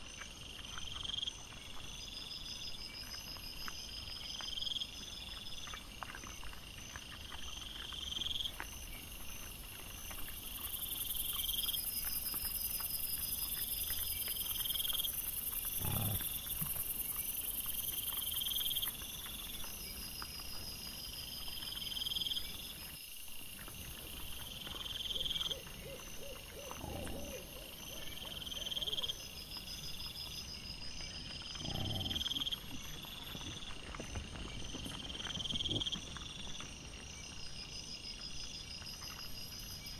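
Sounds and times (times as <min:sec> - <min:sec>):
insect high chirp: 0:07.4 - 0:39.9.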